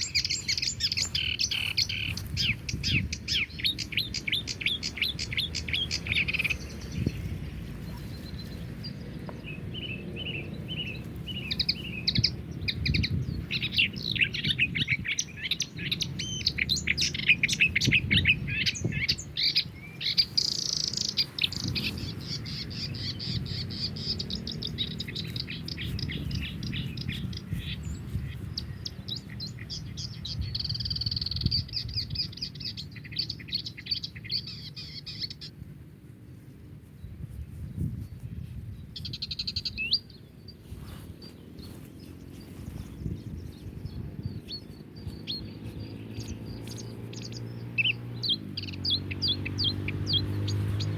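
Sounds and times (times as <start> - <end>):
steady low rumble: 0.0 - 32.9, 35.6 - 49.0
songbirds chirping and singing: 0.0 - 50.9.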